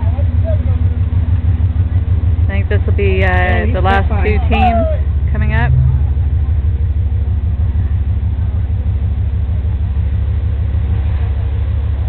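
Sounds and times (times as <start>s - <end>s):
pulsing low rumble: 0.0s - 12.0s.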